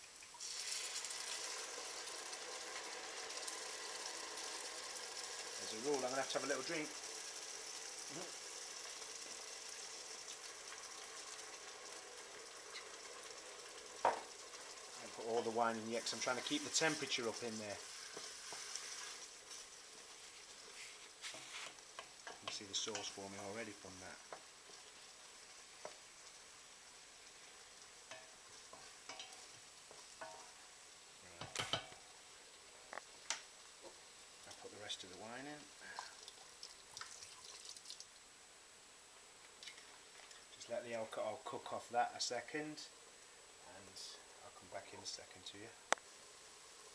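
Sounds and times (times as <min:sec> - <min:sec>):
sauce sizzling in a pan: 0:00.0 - 0:46.9.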